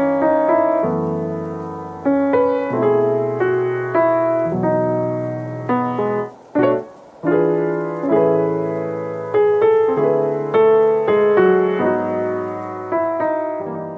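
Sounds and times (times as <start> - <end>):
soft electric piano chords: 0.0 - 13.9.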